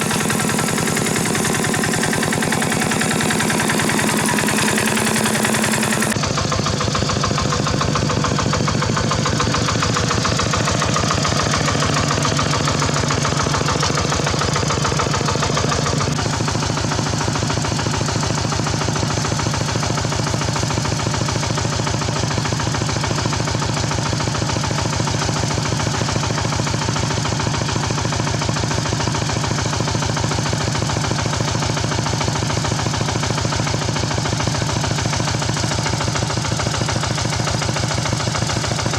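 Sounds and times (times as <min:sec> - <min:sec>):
hand tractor engine running: 0:00.0 - 0:06.2, 0:06.8 - 0:38.9.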